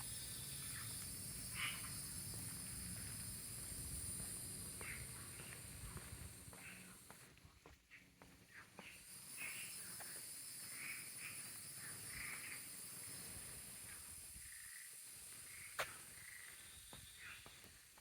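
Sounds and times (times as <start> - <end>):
high-pitched insect drone: 0.0 - 6.9, 9.0 - 16.7
frogs calling: 0.0 - 7.1, 8.8 - 17.7.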